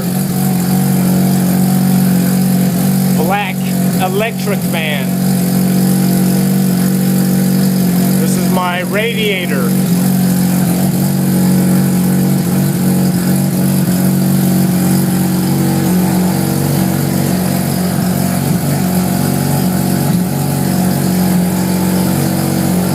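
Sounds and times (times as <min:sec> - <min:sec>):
rotary engine idling: 0:00.0 - 0:22.9.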